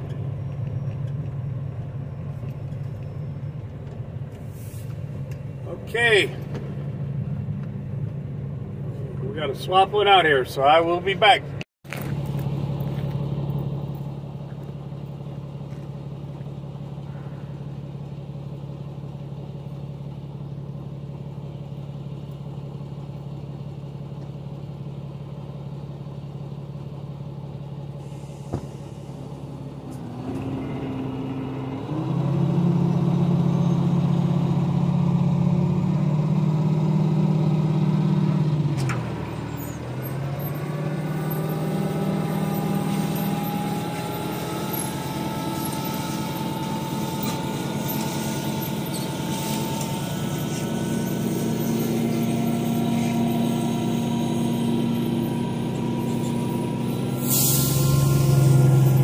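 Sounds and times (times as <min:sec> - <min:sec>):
diesel truck engine idling and revving: 0:00.0 - 0:59.0.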